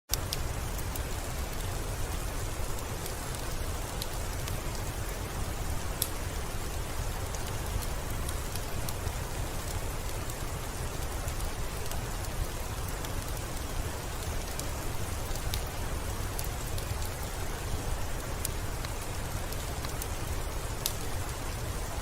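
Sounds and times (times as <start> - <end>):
steady rain: 0.1 - 22.0
wood fire crackling: 0.1 - 22.0.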